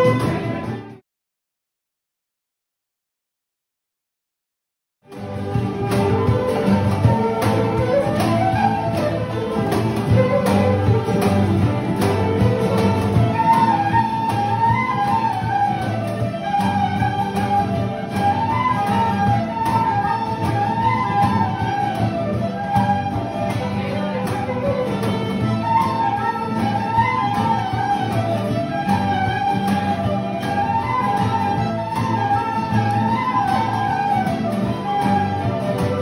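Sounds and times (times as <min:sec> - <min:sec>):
fiddle and flute melody: 0:00.0 - 0:01.0, 0:05.1 - 0:36.0
frame drum: 0:00.0 - 0:01.0, 0:05.1 - 0:36.0.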